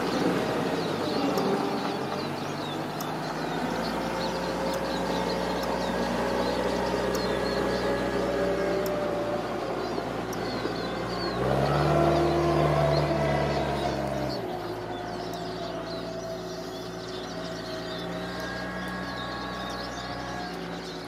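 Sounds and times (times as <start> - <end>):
small birds chirping: 0.0 - 21.0
steady mechanical hum: 0.0 - 21.0.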